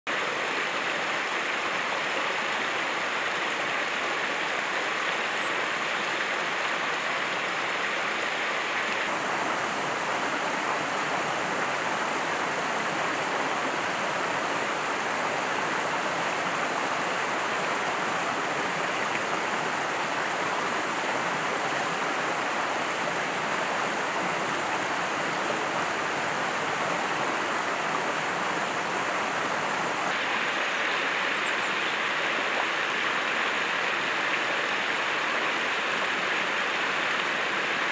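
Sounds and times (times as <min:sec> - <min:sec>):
stream rushing over rocks: 0:00.1 - 0:37.9.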